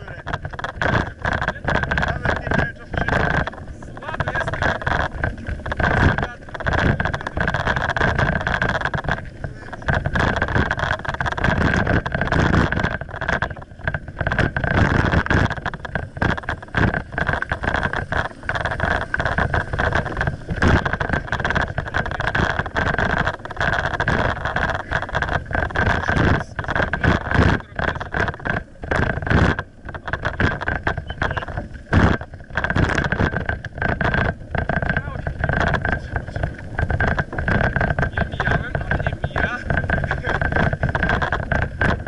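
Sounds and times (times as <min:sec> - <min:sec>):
camera knocks and rattles: 0:00.0 - 0:42.0
steady high hum: 0:00.0 - 0:42.0
wind buffeting microphone: 0:00.0 - 0:42.0.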